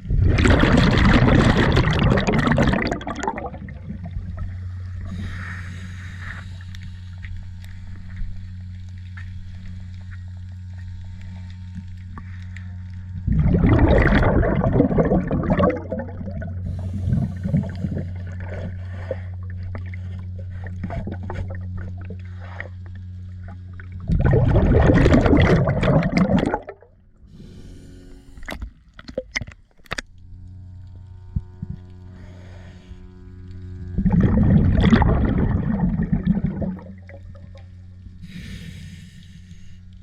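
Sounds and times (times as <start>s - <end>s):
boat engine humming: 0.0s - 29.0s, 29.6s - 40.0s.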